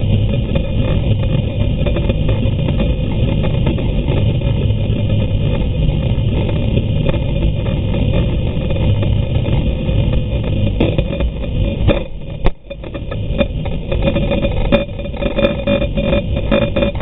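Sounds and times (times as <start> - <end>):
steady hum: 0.0 - 17.0
underwater boat engine drone: 0.0 - 17.0.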